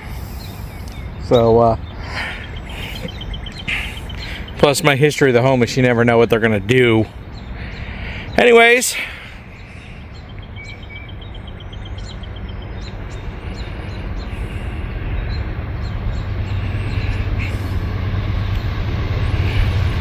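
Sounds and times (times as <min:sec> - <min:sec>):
birds chirping faintly: 0:00.0 - 0:20.0
freight train rumbling: 0:00.0 - 0:20.0.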